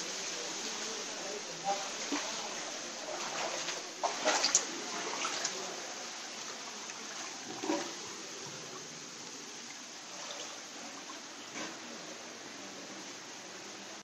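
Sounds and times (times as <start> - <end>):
running water hissing: 0.0 - 14.0.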